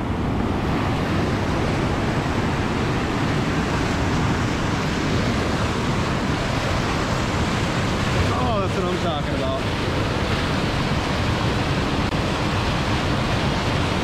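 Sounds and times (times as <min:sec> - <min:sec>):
water rushing over boulders: 0:00.0 - 0:14.0.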